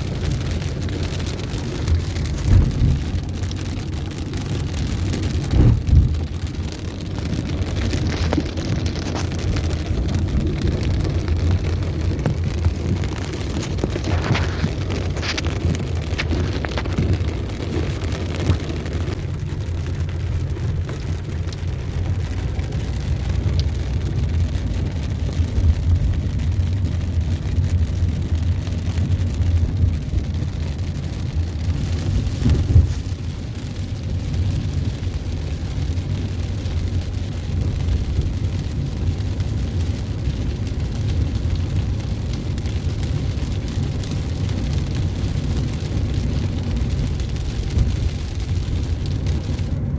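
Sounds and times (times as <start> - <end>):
car engine and road noise: 0.0 - 49.9
rain hiss: 0.0 - 49.9.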